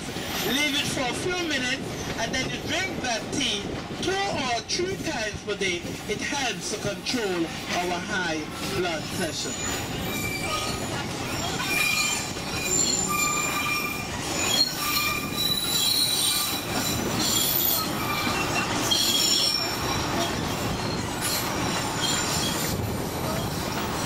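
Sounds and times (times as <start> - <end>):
train wheels squealing on rails: 0.0 - 3.0, 7.4 - 24.0
train running rumble: 0.0 - 24.0.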